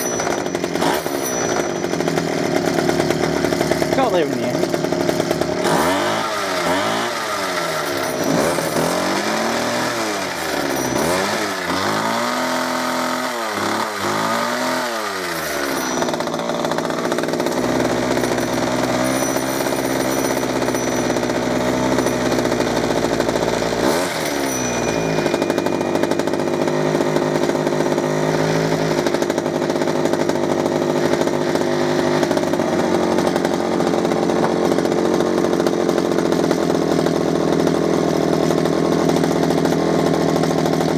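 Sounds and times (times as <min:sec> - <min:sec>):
hedge trimmer engine revving: 0:00.0 - 0:40.9.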